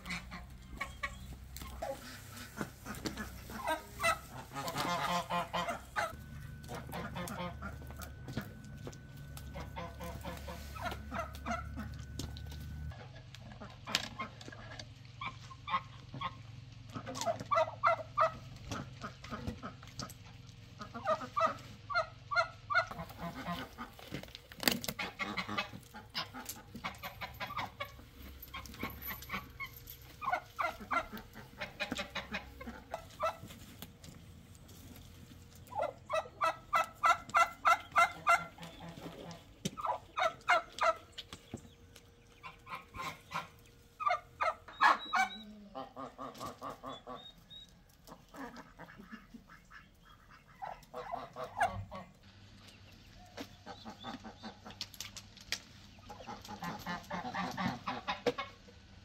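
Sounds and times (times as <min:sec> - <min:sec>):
geese honking: 0:00.0 - 0:52.3, 0:52.9 - 0:58.7.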